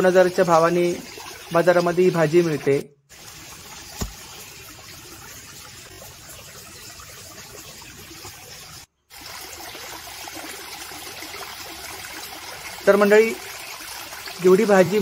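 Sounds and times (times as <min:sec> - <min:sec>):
water trickling in a stream: 0:00.0 - 0:15.0.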